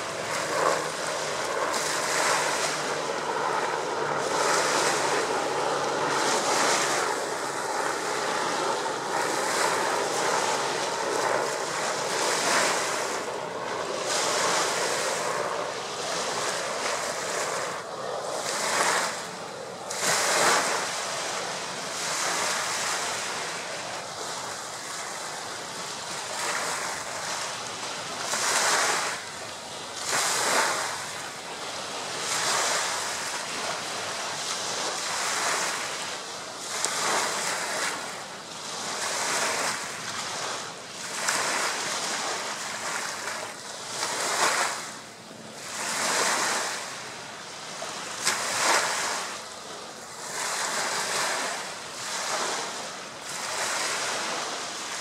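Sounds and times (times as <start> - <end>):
small waves washing up beach: 0.0 - 55.0.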